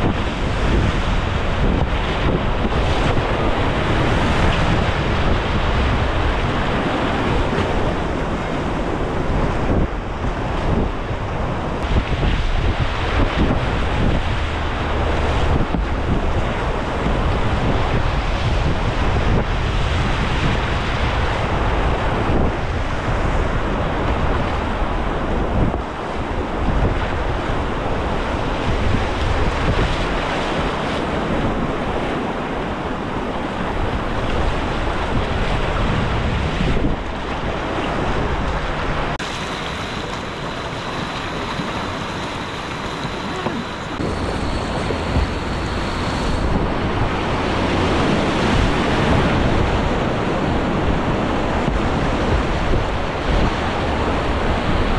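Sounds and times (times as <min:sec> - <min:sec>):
whitewater rushing: 0:00.0 - 0:20.1, 0:24.9 - 0:54.9
wind buffeting microphone: 0:00.0 - 0:54.9.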